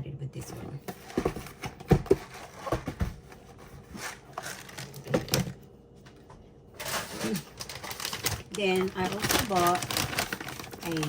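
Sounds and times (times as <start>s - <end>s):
packaging rustling: 0.9s - 5.6s, 6.8s - 11.0s.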